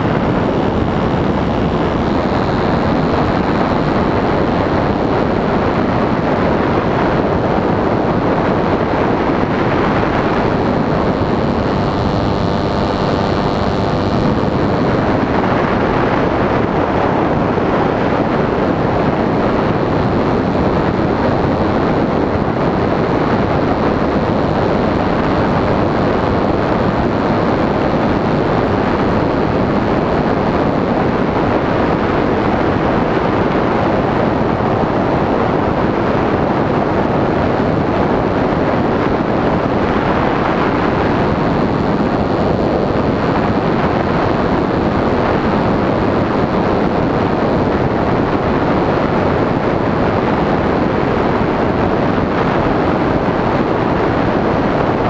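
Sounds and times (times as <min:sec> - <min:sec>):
airflow rushing over microphone: 0:00.0 - 0:55.0
model airplane engine and propeller: 0:00.0 - 0:55.0.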